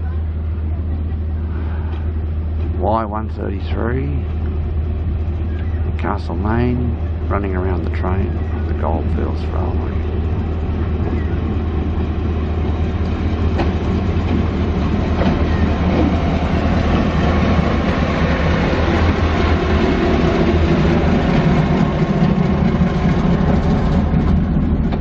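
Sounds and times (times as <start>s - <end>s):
diesel locomotive passing: 0.0s - 25.0s.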